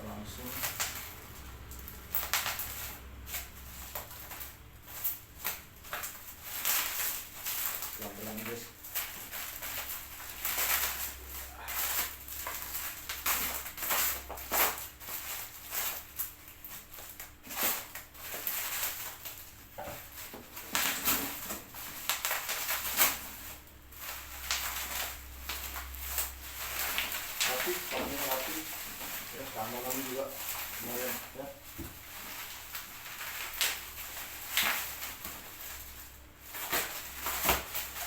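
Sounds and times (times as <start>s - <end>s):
packaging rustling and crinkling: 0.0s - 38.0s
scrapes and small knocks: 2.2s - 38.0s.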